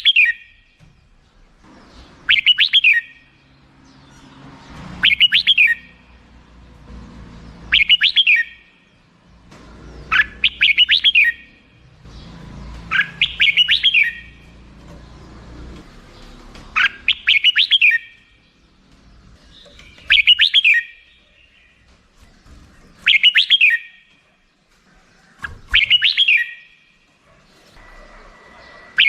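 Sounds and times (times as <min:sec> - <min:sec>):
bird singing bright notes: 0:00.0 - 0:06.1, 0:07.4 - 0:27.2.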